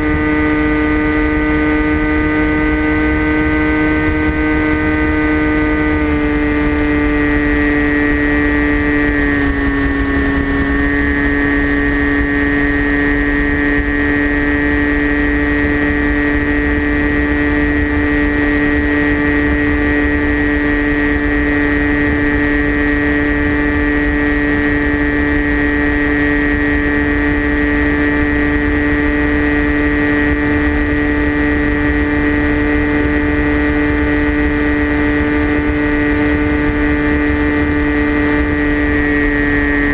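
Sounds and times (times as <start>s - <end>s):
electric motor and propeller drone: 0.0s - 39.9s
wind rumbling on microphone: 0.0s - 39.9s.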